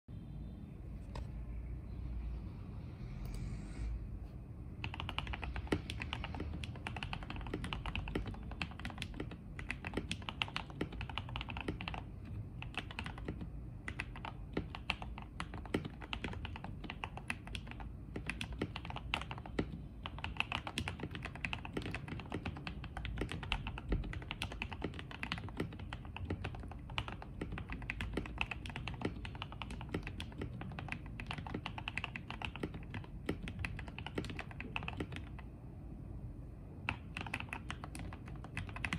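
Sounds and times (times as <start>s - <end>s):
typing on mechanical keyboard: 4.8s - 35.5s, 36.8s - 38.9s.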